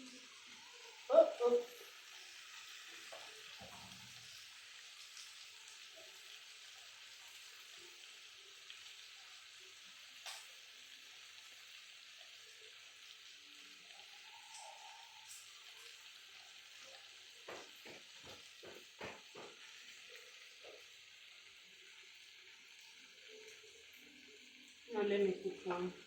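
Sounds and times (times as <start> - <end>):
food sizzling in a pot: 0.0 - 26.0.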